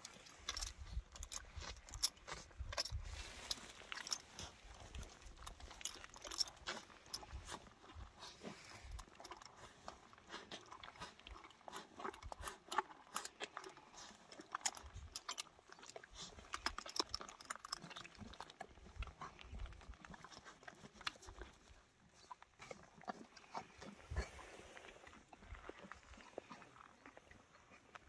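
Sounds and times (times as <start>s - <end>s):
horse chewing bread: 0.0s - 28.0s.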